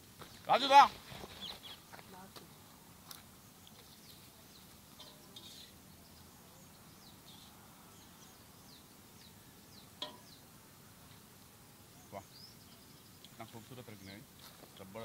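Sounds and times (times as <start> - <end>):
background hiss: 0.0 - 15.0
faint bird chirps: 1.1 - 2.6, 3.4 - 14.2.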